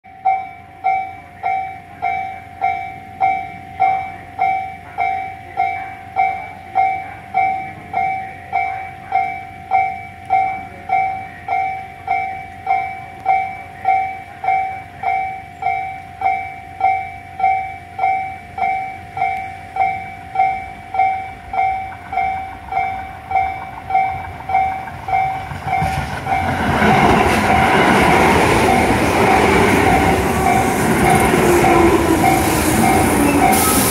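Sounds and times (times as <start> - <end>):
level-crossing bell dinging: 0.1 - 33.9
train wheels on rails: 0.1 - 33.9.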